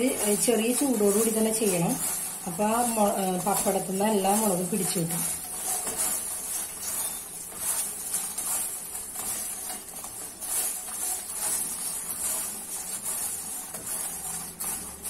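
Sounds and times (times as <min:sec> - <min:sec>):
fried crisps rustling in steel bowl: 0:00.0 - 0:15.0.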